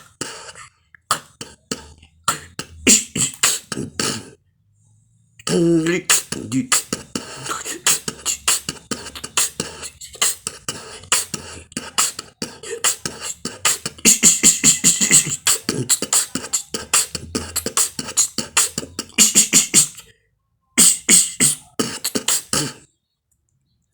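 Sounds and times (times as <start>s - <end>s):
beatboxing: 0.0s - 4.4s, 5.4s - 20.1s, 20.8s - 22.9s.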